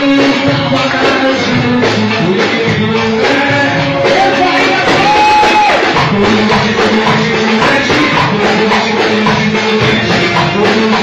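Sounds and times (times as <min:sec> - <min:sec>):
loud wedding music: 0:00.0 - 0:11.0.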